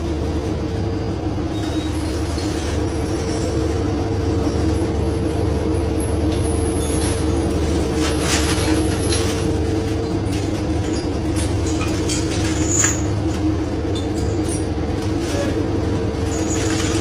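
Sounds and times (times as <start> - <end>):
boat engine drone: 0.0 - 17.0.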